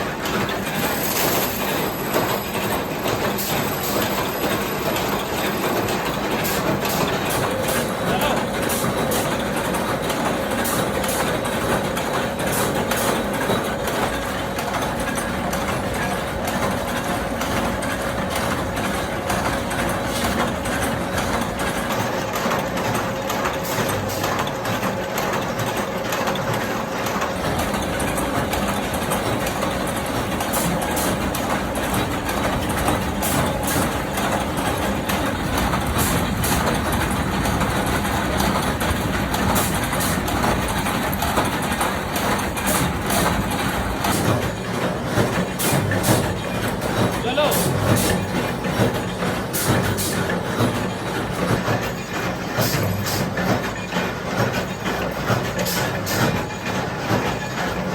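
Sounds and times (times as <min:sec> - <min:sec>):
factory machinery din: 0:00.0 - 0:57.9.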